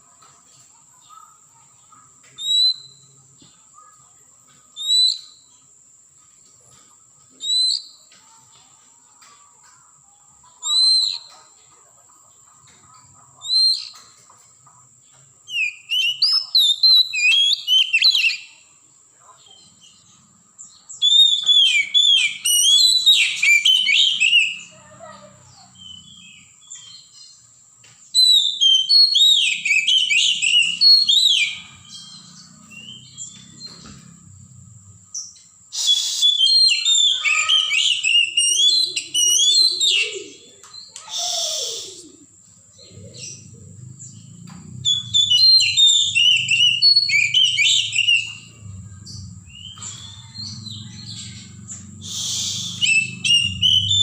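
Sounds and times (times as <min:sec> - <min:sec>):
bird singing warbling phrases: 0:00.0 - 0:05.8, 0:06.4 - 0:54.0.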